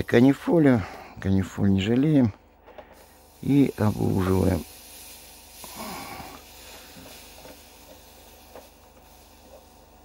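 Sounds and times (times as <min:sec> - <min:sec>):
soldering flux hissing: 0:00.0 - 0:10.0.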